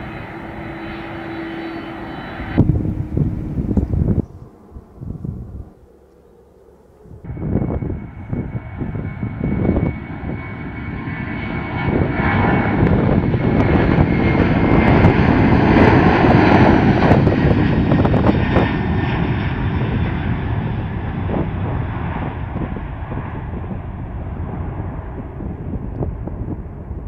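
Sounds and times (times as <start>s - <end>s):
high engine whine: 0.0s - 27.0s
jet engines roaring at takeoff: 0.0s - 27.0s.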